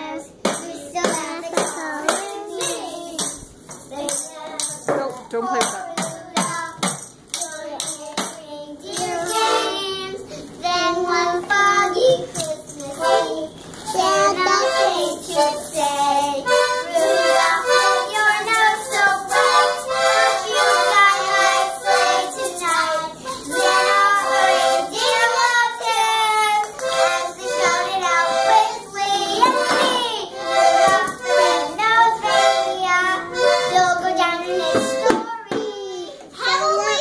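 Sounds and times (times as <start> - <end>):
girls singing: 0.0 - 3.4, 4.0 - 35.3
toy accordion chords: 0.0 - 35.5.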